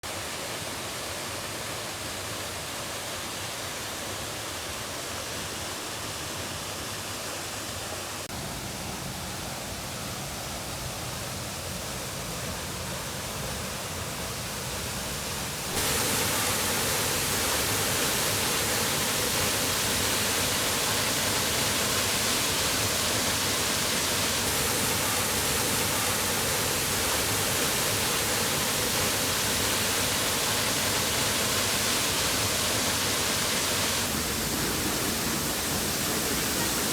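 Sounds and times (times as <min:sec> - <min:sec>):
waterfall rushing: 0:05.5 - 0:36.9.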